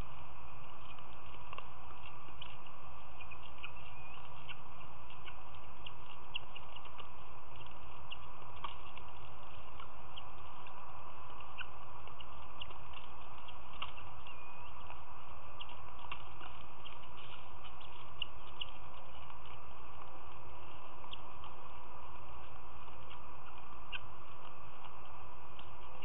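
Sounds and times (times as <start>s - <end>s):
bird chirps: 0.0s - 26.0s
steady background hiss: 0.0s - 26.0s.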